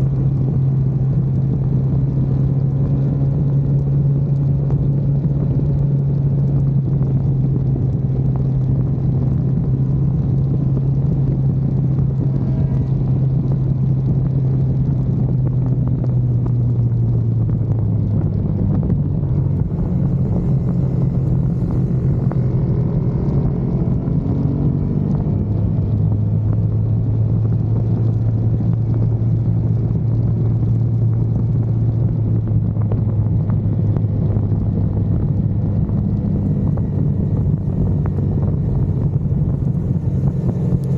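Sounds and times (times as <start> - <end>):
race car engine drone: 0.0 - 40.9.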